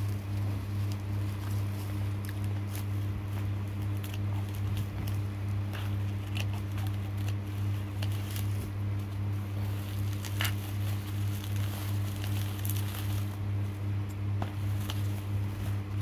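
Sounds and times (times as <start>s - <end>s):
bubble wrap crinkling: 0.0s - 16.0s
low electrical hum: 0.0s - 16.0s.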